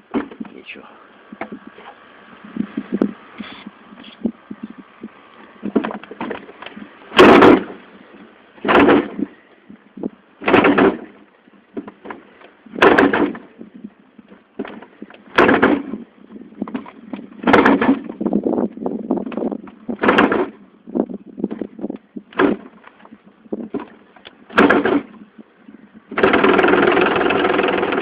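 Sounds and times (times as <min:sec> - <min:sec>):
wind buffeting microphone: 0:01.2 - 0:11.2, 0:12.7 - 0:26.4.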